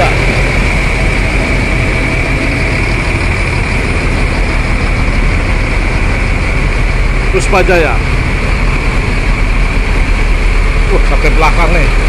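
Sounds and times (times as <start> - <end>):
bus diesel engines idling: 0.0 - 12.0
constant high whine: 0.0 - 12.0.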